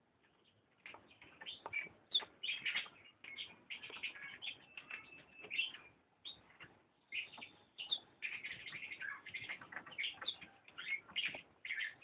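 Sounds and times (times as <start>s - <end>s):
canary chicks chirping: 0.0s - 12.0s.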